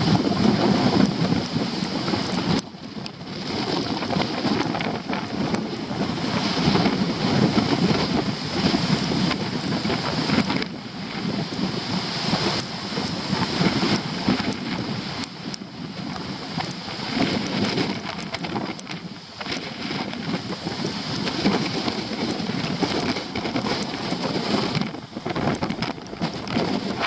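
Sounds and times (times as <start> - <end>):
gusty wind buffeting microphone: 0.0 - 27.0
rain ticking on camera: 0.0 - 27.0.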